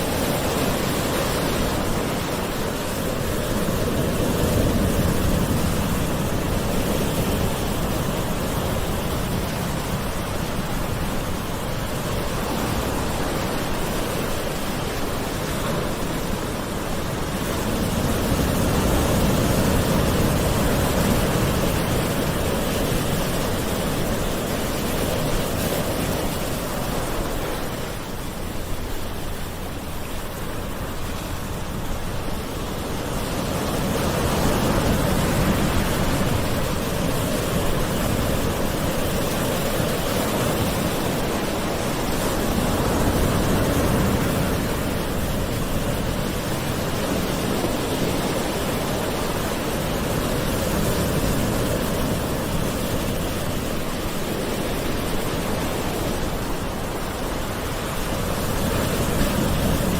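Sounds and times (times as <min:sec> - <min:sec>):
sea waves washing ashore: 0:00.0 - 0:59.9.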